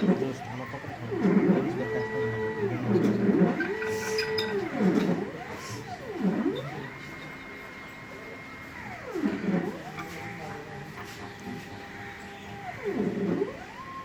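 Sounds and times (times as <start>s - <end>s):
stepper motors whining: 0.0s - 14.0s.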